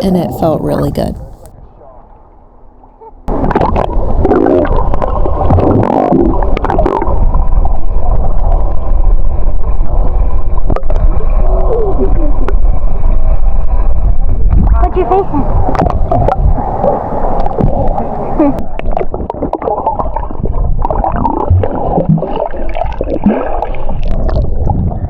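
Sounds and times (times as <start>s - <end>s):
low rumble: 0.0s - 23.2s
water gurgling and sloshing: 0.0s - 25.0s.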